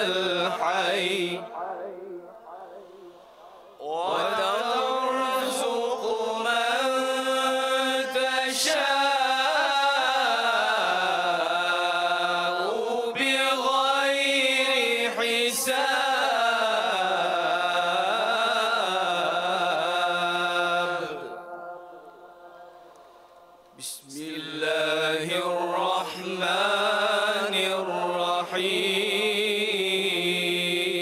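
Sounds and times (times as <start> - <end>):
man reciting melodically: 0.0 - 22.6, 23.8 - 31.0.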